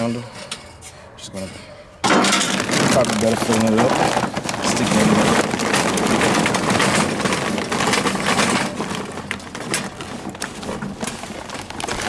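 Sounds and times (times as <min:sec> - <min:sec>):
charcoal clattering in a chimney: 0:02.0 - 0:12.0.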